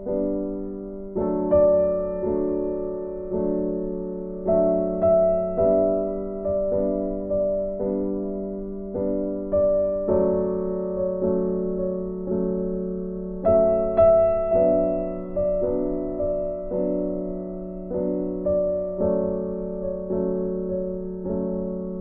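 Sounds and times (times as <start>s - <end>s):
soft keyboard music: 0.0s - 22.0s.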